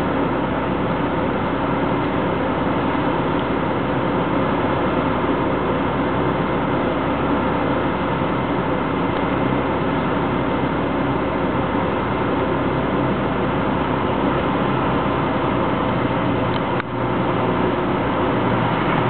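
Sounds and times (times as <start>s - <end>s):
engines droning: 0.0s - 19.0s.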